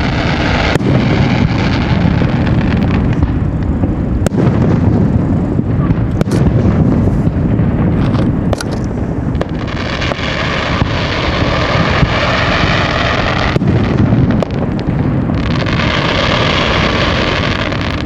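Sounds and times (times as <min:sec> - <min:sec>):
fireworks booms and bangs: 0:00.0 - 0:18.0
fireworks hissing: 0:00.0 - 0:18.0.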